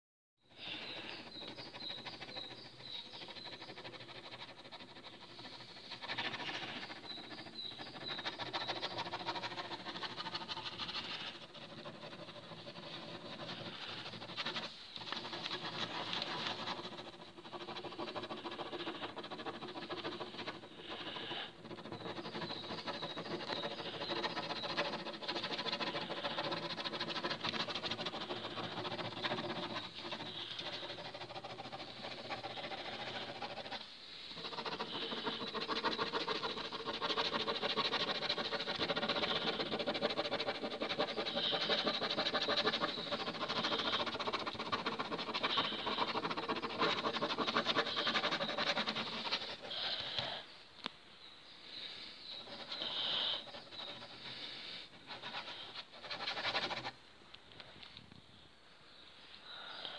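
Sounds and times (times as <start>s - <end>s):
pen scratching on paper: 1.0s - 50.4s, 52.3s - 57.0s.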